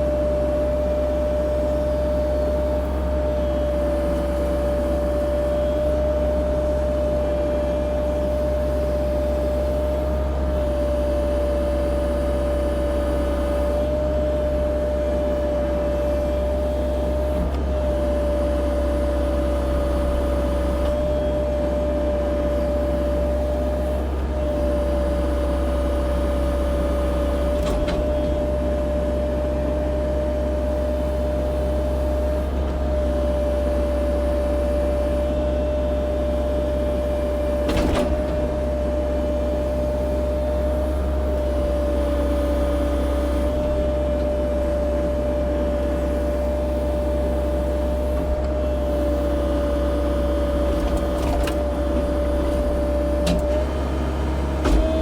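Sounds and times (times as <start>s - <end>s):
excavator engine drone with whine: 0.0s - 55.0s.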